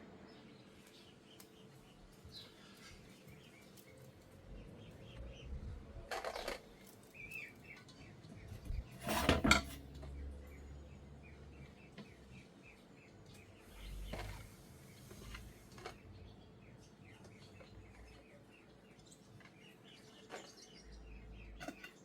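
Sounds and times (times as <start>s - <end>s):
small birds chirping: 0.1s - 9.2s, 10.0s - 22.0s.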